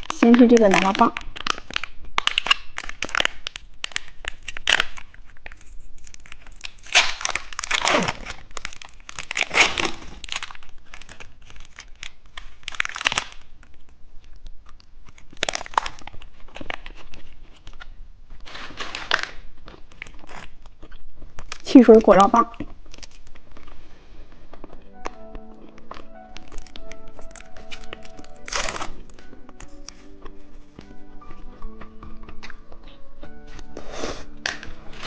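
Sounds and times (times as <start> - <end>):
plastic wrapper tearing and crinkling: 0.0 - 35.0.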